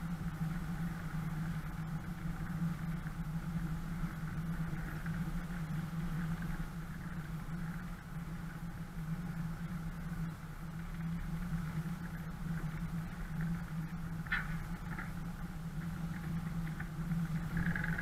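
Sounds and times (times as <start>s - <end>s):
vehicle engine running at low revs: 0.0s - 18.0s.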